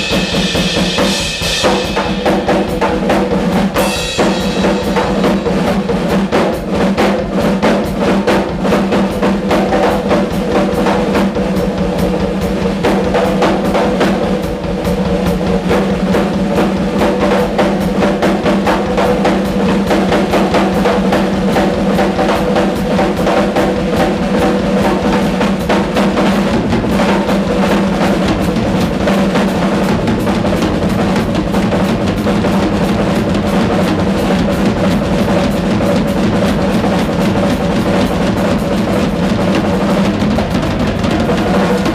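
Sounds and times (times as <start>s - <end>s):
rock drum solo: 0.0s - 41.9s.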